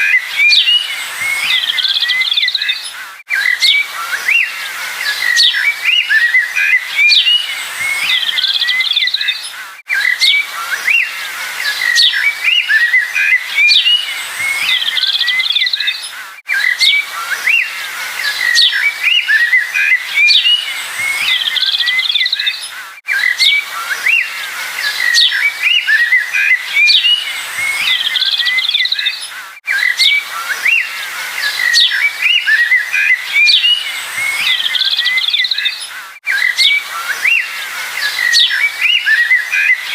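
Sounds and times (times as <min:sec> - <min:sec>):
songbirds chirping: 0:00.0 - 0:39.9
background hiss: 0:00.3 - 0:39.9.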